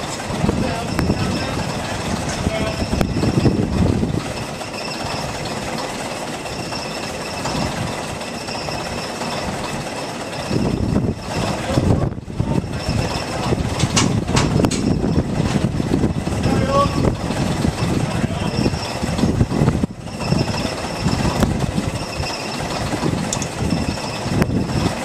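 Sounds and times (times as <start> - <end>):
crane engine running: 0.0 - 25.0
heavy low rumbling: 0.0 - 25.0.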